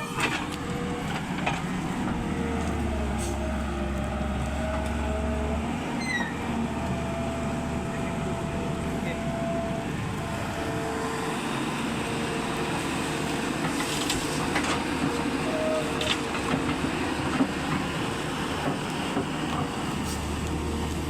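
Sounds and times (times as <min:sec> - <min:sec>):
heavy truck rumbling: 0:00.0 - 0:21.0.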